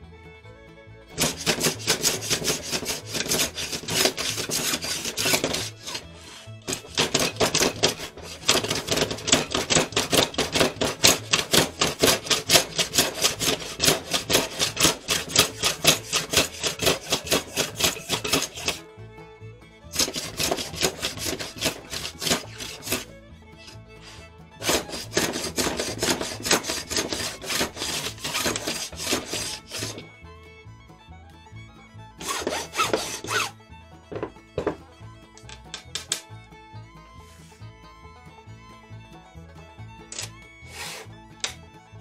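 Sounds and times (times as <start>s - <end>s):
hand plane shaving bamboo: 1.1s - 18.9s, 19.8s - 30.2s, 32.2s - 36.3s, 40.0s - 41.6s.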